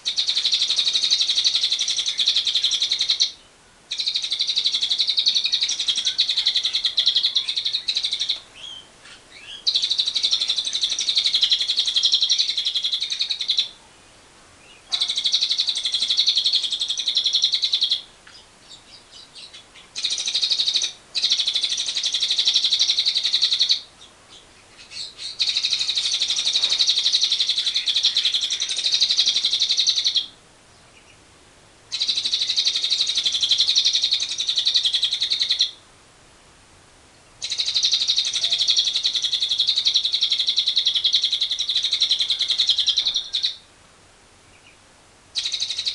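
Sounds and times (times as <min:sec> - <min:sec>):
faint bird chirps: 0:00.0 - 0:31.2, 0:31.9 - 0:35.8, 0:37.1 - 0:43.7, 0:44.4 - 0:45.9.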